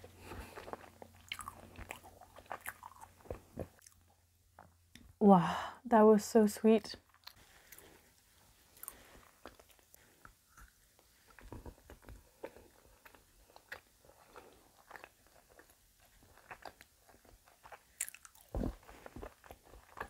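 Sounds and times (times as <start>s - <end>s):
person chewing chocolate: 0.0s - 5.1s, 7.1s - 20.0s.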